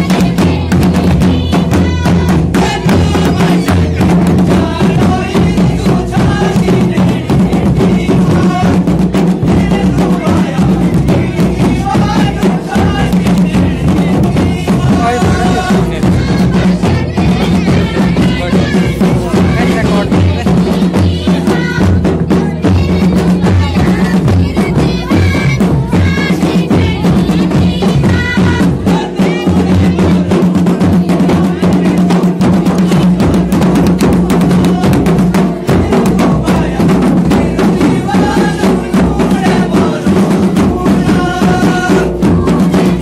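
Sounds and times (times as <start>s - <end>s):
fast steady drumming: 0.0s - 43.0s
voices singing: 0.0s - 43.0s.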